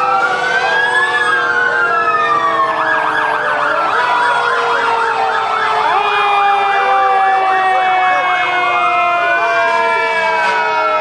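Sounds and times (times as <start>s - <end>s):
fast siren yelp: 0.0s - 11.0s
fire engine sirens wailing: 0.0s - 11.0s.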